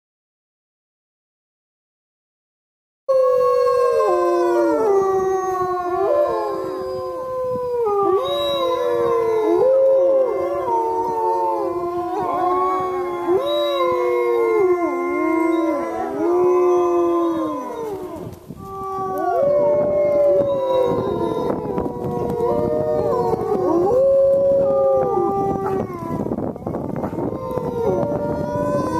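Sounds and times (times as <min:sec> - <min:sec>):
wolves howling in chorus: 0:03.1 - 0:28.9.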